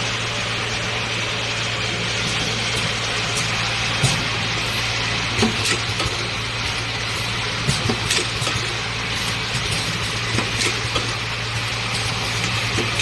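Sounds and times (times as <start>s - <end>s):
filling machine humming: 0.0s - 13.0s.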